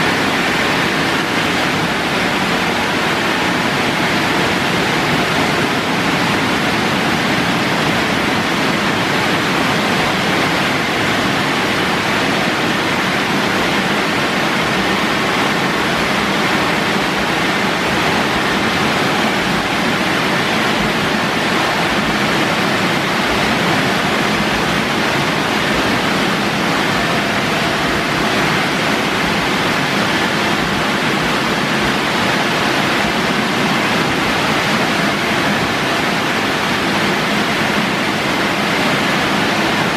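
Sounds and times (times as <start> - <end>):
car wash rushing: 0.0 - 39.9.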